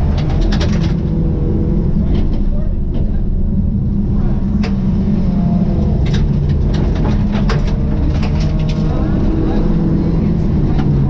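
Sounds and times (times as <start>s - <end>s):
rally car engine running hard: 0.0s - 11.0s.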